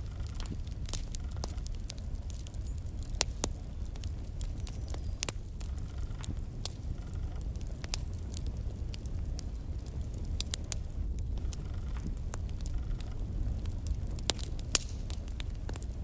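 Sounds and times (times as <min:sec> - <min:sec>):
burning logs crackling and popping: 0:00.0 - 0:16.0
fire flames rumbling: 0:00.0 - 0:16.0.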